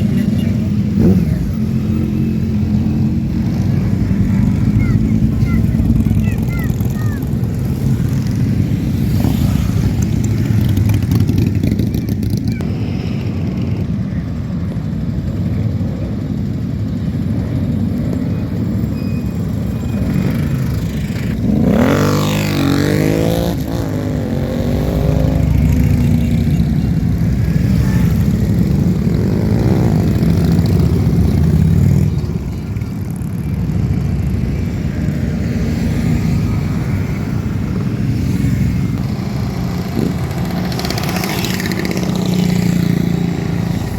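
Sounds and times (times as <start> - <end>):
motorcycle revving hard: 0.0 - 13.0, 19.6 - 43.9
many motorcycle engines rumbling: 0.0 - 43.9.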